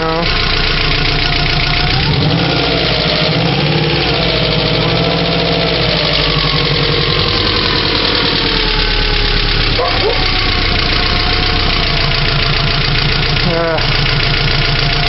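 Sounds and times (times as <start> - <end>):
car engine idling: 0.0 - 15.0
valvetrain clacking: 0.0 - 15.0.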